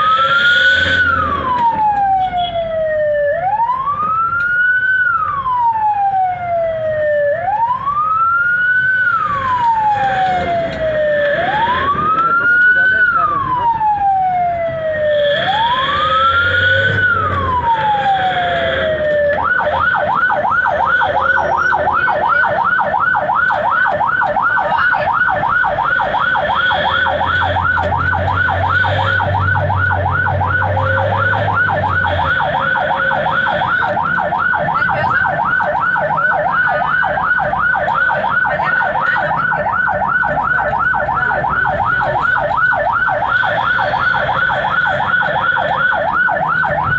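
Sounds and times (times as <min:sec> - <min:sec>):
ambulance siren: 0:00.0 - 0:46.9.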